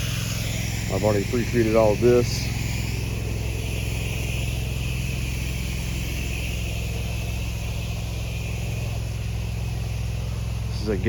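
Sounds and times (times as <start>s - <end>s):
pressure washer engine running: 0.0s - 11.0s
steady hiss: 0.0s - 11.0s.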